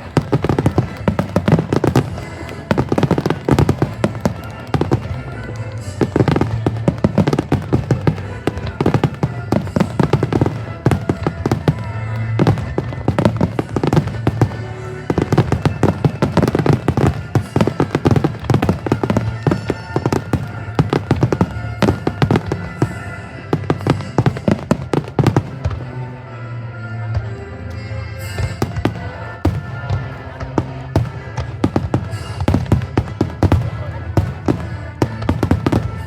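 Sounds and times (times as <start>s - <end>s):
fireworks bangs and crackling: 0.0s - 36.0s
loud music: 0.0s - 36.0s.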